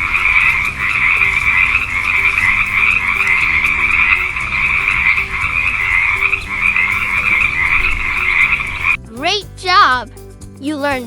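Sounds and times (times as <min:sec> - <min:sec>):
frogs chorus: 0:00.0 - 0:09.0.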